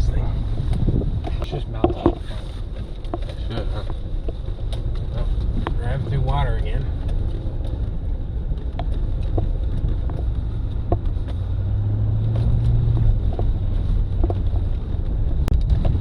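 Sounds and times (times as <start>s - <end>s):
engine and road rumble: 0.0s - 16.0s
light knocks and ticks: 0.7s - 5.8s, 7.0s - 11.5s, 12.3s - 16.0s.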